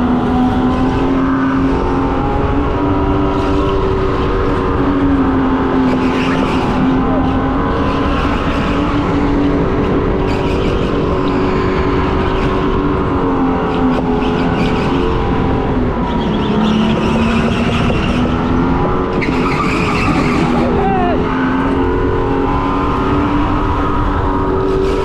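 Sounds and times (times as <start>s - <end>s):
electric go-kart motor whining: 0.0s - 25.0s.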